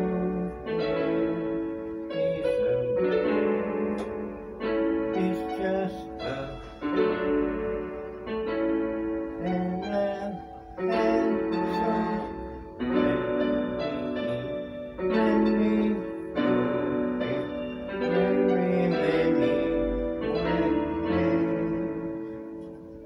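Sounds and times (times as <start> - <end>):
electronic keyboard chords: 0.0 - 23.0.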